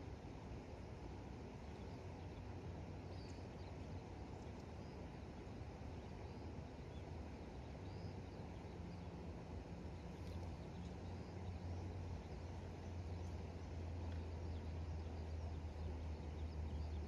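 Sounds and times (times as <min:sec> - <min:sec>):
steady low rumble: 0:00.0 - 0:17.0
faint bird chirps: 0:01.6 - 0:17.0.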